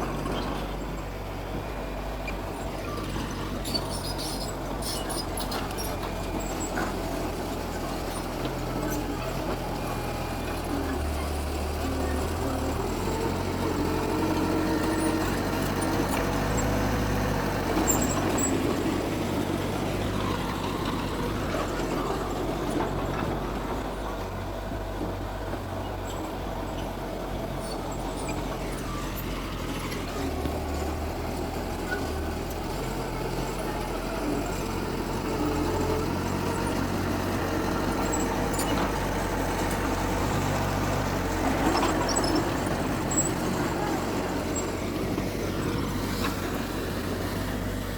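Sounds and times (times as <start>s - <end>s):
diesel engine low drone: 0.0s - 47.9s.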